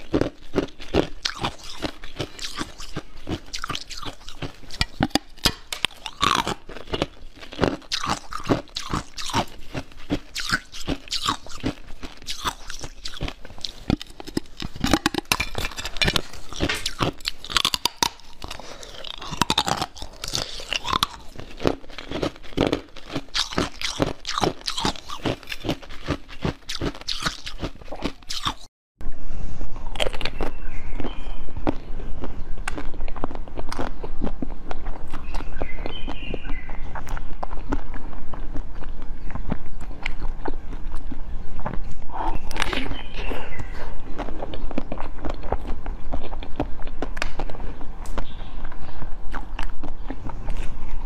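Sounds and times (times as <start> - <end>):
crunching frozen jelly: 0.0 - 28.7, 29.8 - 51.0.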